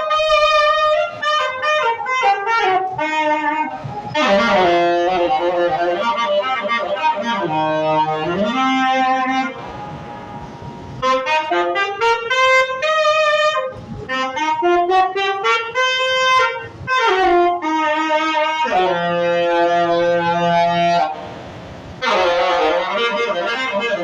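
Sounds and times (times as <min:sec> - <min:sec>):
saxophone melody: 0:00.0 - 0:24.0.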